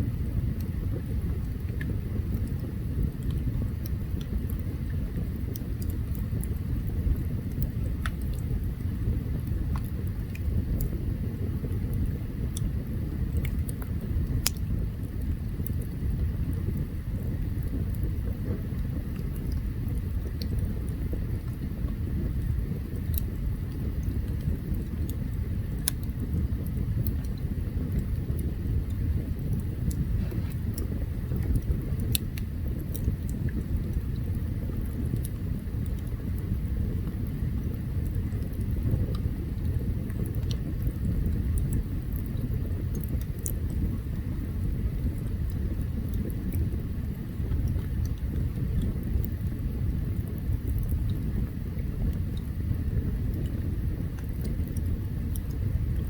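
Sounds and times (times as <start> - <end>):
burning wood crackling and popping: 0.0 - 56.0
campfire rumble: 0.0 - 56.0.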